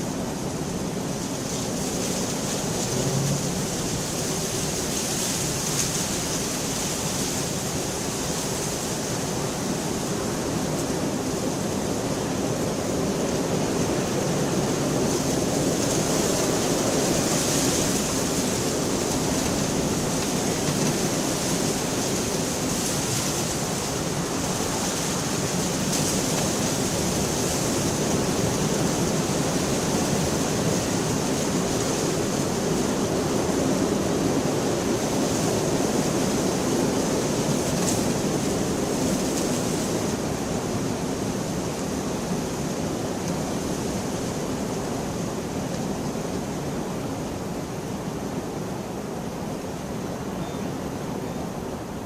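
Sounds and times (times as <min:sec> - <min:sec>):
rain on a window: 0:00.1 - 0:48.9.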